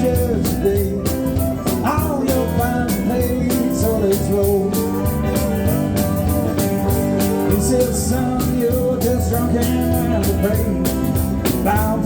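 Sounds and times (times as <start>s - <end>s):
bass guitar: 0.0s - 12.0s
electric guitars: 0.0s - 12.0s
steady drum beat: 0.0s - 12.0s.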